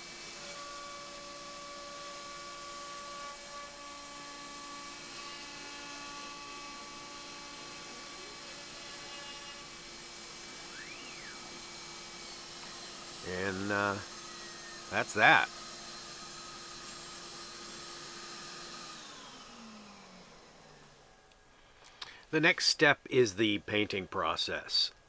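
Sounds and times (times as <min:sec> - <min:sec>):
router spindle whining: 0:00.0 - 0:21.3.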